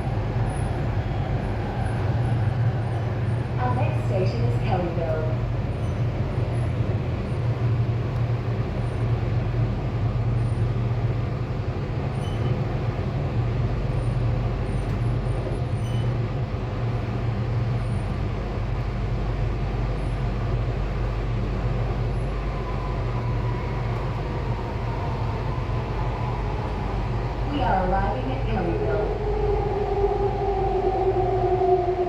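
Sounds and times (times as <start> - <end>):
train hum and rumble: 0.0 - 32.0.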